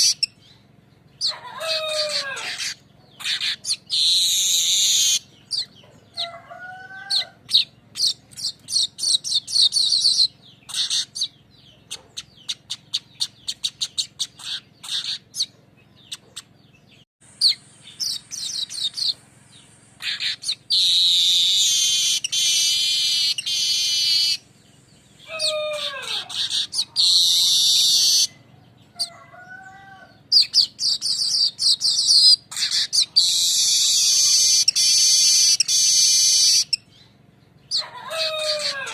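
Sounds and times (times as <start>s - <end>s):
weaver bird chattering song: 0.0s - 6.4s, 7.0s - 29.2s, 30.1s - 38.9s.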